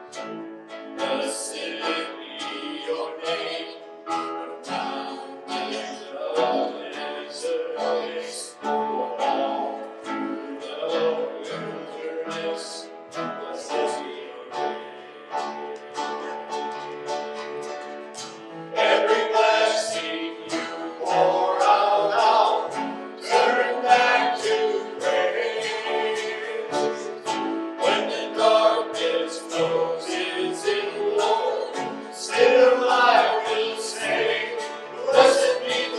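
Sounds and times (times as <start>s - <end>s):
acoustic guitar strummed: 0.0s - 35.9s
person singing: 0.9s - 16.6s, 18.7s - 35.9s.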